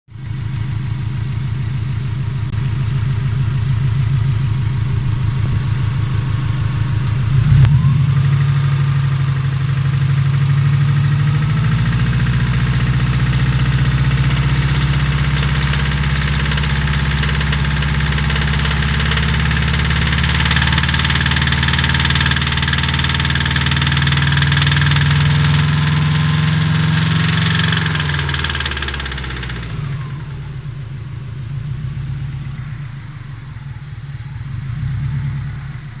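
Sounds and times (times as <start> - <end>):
car engine with rhythmic knocking: 0.1 - 36.0.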